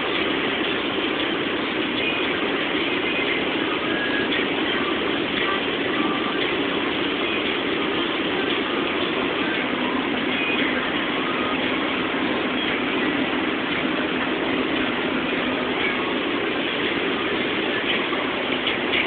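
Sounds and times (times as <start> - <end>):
car engine running: 0.0 - 19.0
wind and tyre noise in car: 0.0 - 19.0.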